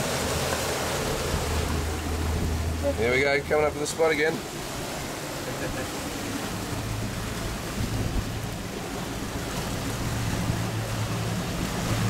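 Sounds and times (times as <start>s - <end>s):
boat motors humming: 0.0s - 12.0s
water rushing past: 0.0s - 12.0s.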